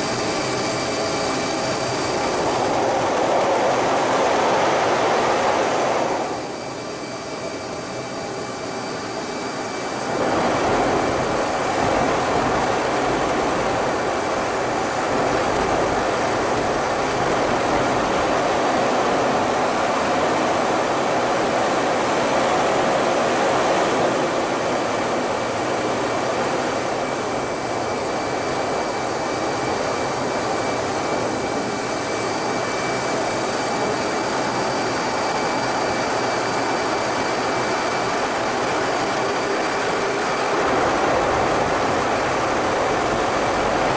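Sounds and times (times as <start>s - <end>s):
jet engine and airflow rush: 0.0s - 43.9s.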